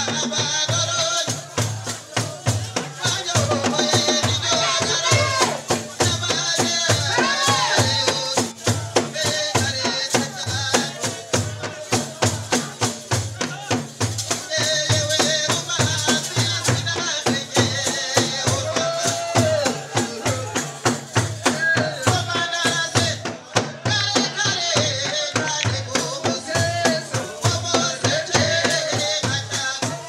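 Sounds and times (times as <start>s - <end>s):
group singing: 0.0s - 30.0s
large wooden drums beating: 0.0s - 30.0s.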